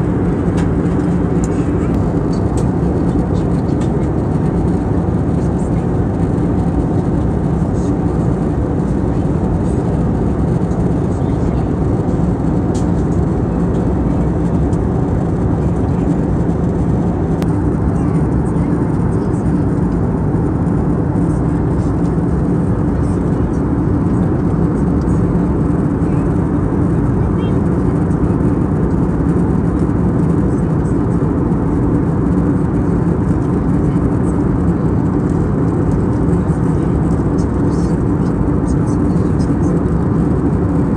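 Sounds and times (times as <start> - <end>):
airliner cabin engine noise: 0.0 - 40.9.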